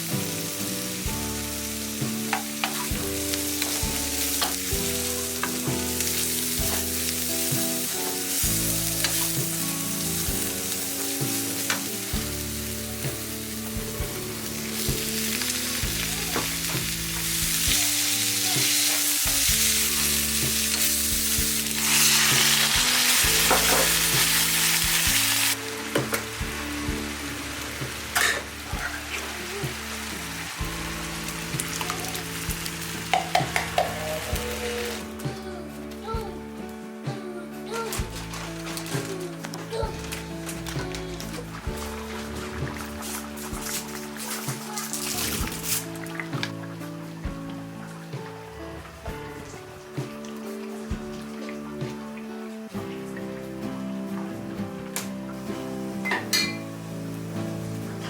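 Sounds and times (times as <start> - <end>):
food sizzling in a pan: 0.0 - 36.2, 37.6 - 58.0.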